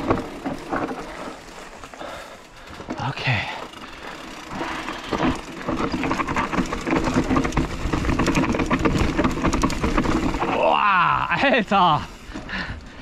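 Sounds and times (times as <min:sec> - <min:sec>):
bike rattling clicks: 0:00.0 - 0:13.0
bike tyres on rough trail: 0:00.0 - 0:13.0.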